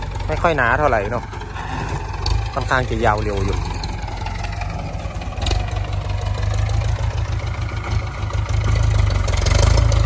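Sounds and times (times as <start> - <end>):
tractor diesel engine throbbing: 0.0 - 10.0.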